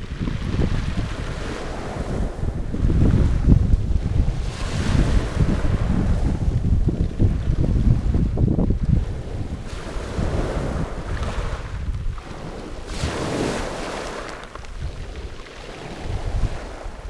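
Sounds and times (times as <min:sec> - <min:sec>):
waves washing over pebbles: 0:00.0 - 0:17.0
wind buffeting microphone: 0:00.0 - 0:17.0.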